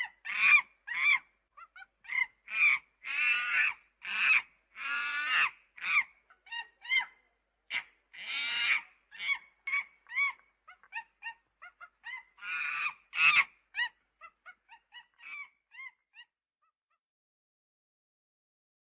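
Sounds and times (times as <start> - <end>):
chimpanzee calling: 0.0 - 16.4.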